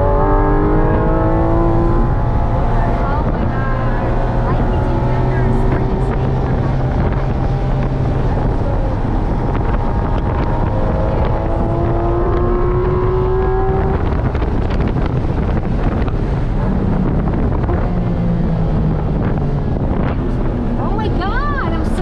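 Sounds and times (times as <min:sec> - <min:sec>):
car engine under power: 0:00.0 - 0:22.0
wind noise: 0:00.0 - 0:22.0.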